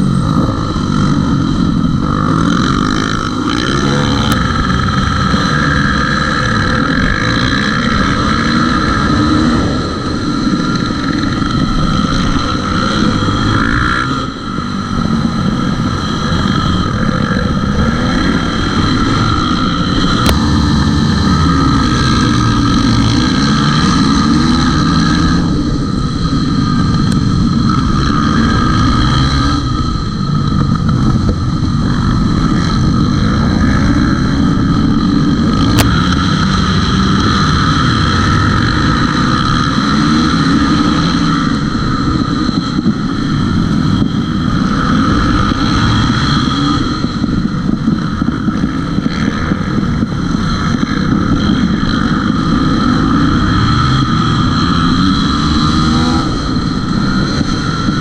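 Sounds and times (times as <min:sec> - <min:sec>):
motorcycle engine revving: 0:00.0 - 0:58.0
racing motorcycles: 0:00.0 - 0:58.0.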